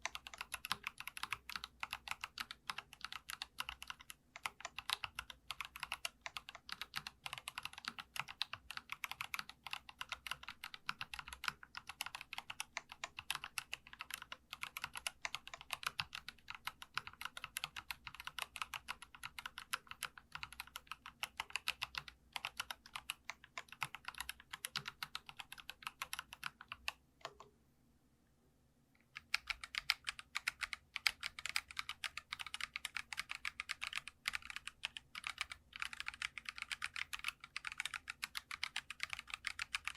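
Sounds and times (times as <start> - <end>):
fast mechanical keyboard typing: 0.0 - 27.4, 29.1 - 39.9.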